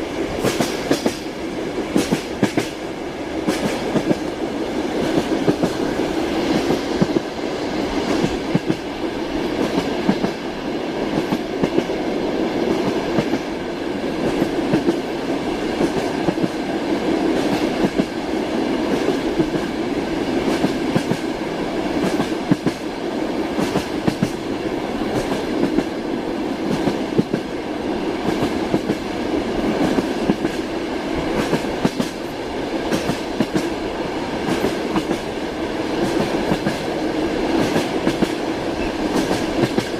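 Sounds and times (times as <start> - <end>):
train wheels clattering over rails: 0.0 - 27.6, 28.2 - 39.9.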